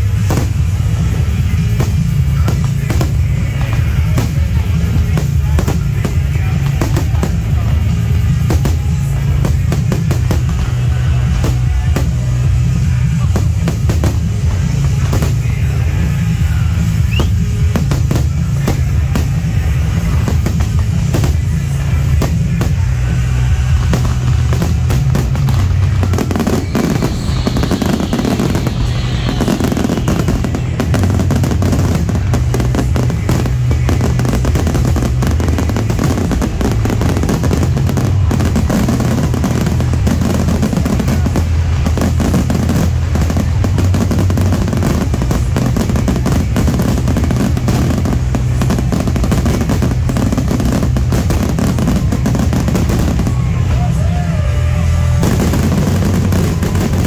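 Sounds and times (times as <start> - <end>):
fireworks bangs and crackle: 0.0 - 57.0
music playing: 0.0 - 57.0.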